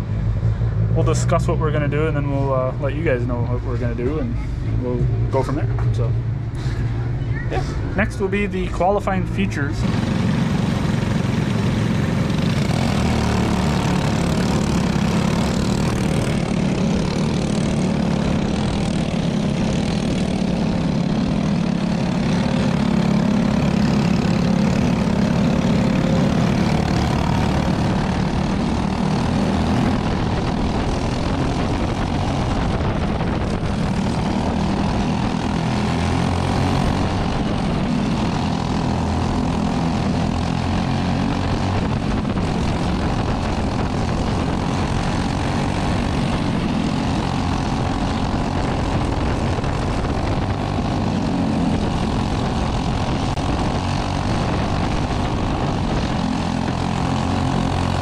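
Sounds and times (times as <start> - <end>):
go-kart engines droning: 0.0 - 58.0.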